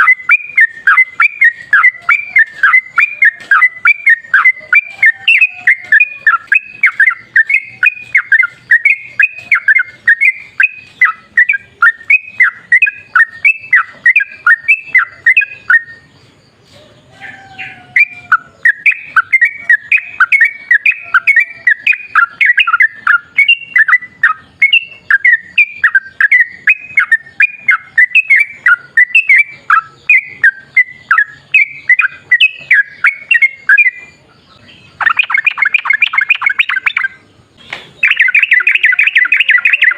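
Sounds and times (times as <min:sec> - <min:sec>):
bird singing rapid chattering notes: 0:00.0 - 0:16.8, 0:17.6 - 0:39.9.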